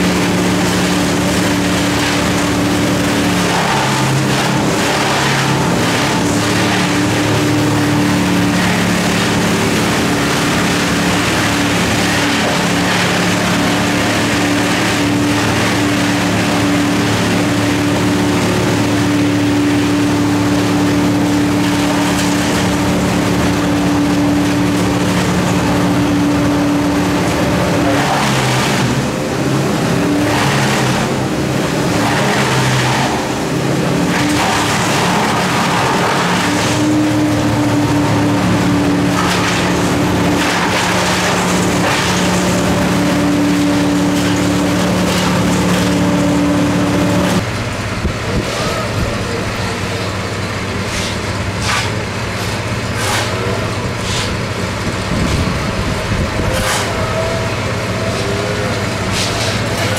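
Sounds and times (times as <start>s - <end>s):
engine running loudly: 0.0s - 59.9s.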